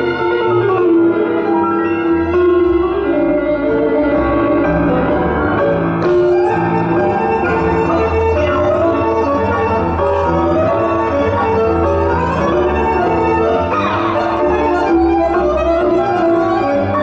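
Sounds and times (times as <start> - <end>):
tango music with piano and violin: 0.0 - 17.0.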